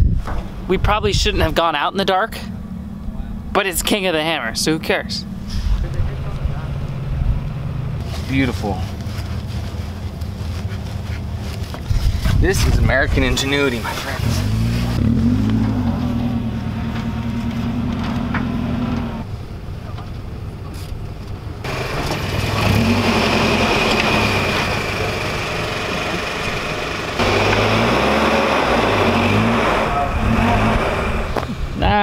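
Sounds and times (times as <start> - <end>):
truck engine revving: 2.2 - 11.5, 12.3 - 19.3, 21.6 - 32.0.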